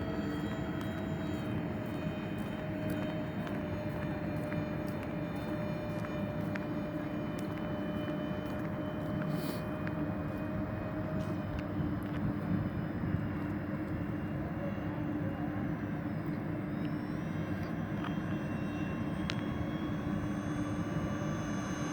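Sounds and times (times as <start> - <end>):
electric model plane motors droning: 0.0 - 21.9.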